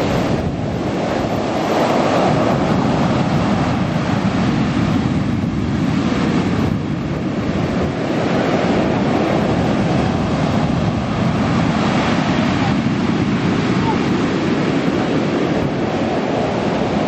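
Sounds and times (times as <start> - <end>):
sea waves breaking on shore: 0.0 - 17.0
wind rumbling on microphone: 0.0 - 17.0.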